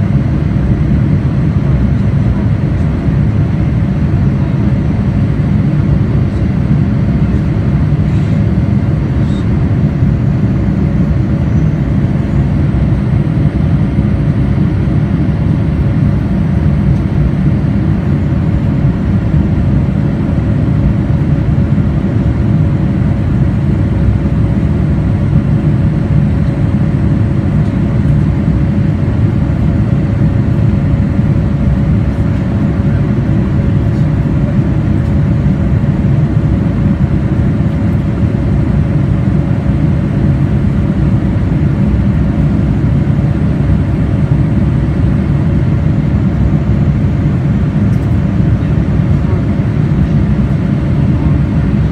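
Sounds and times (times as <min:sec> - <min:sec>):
airplane cabin engine roar: 0:00.0 - 0:51.9.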